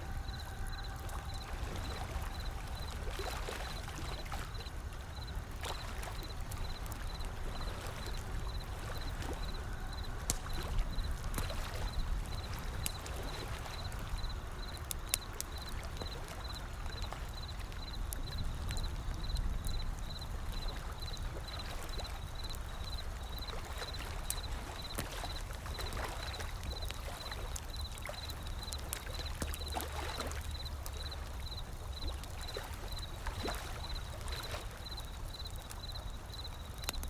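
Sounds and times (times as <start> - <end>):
ocean waves: 0.0 - 36.9
wood fire crackling and popping: 0.2 - 33.1, 34.7 - 37.0.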